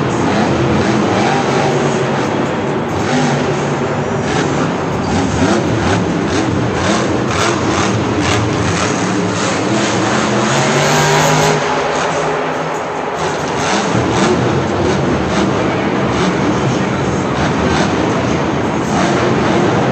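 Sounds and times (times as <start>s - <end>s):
monster truck engine revving: 0.0s - 19.9s.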